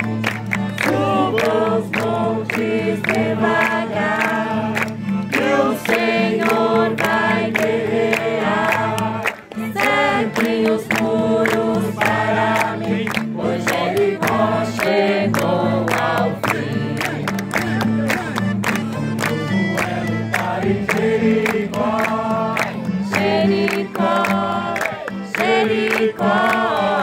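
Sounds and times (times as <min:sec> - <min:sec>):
group singing praise song: 0:00.6 - 0:17.6, 0:19.5 - 0:27.0.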